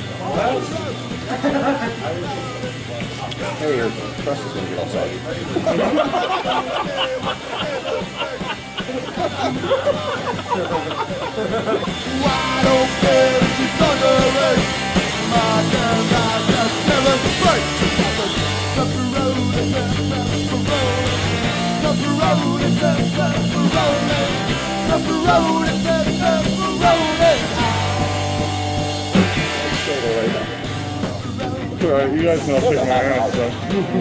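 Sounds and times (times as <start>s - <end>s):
rock music: 0.0s - 34.0s.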